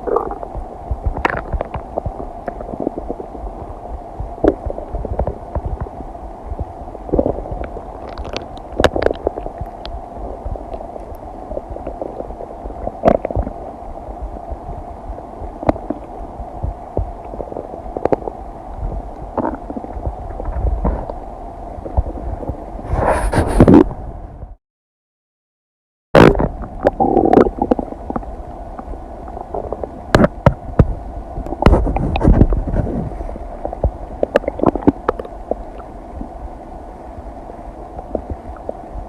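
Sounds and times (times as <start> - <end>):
stomach gurgling: 0.0 - 24.0, 26.2 - 36.4, 37.2 - 39.0
low stomach rumble: 0.0 - 24.6, 26.2 - 36.5, 37.2 - 39.0.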